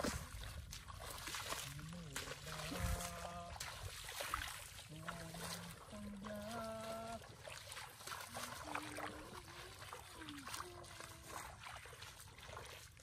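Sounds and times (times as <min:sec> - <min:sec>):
footsteps splashing in water: 0:00.0 - 0:13.0.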